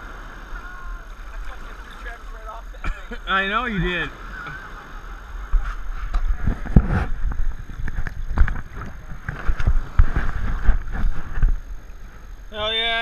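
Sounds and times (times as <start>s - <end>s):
seawater sloshing and splashing: 0.0s - 12.3s
small waves washing in: 0.0s - 13.0s.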